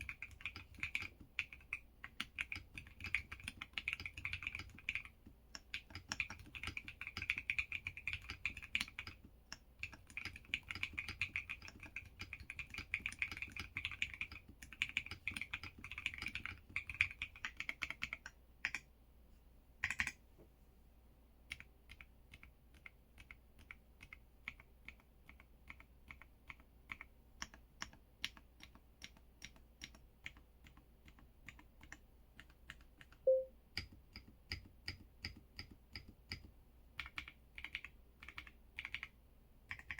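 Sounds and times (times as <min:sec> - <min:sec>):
mechanical keyboard typing: 0:00.0 - 0:18.9, 0:19.8 - 0:20.2, 0:21.5 - 0:39.9.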